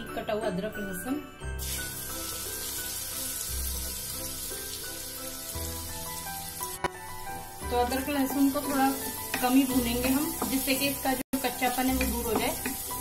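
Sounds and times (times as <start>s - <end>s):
food sizzling in hot oil: 1.6s - 13.0s.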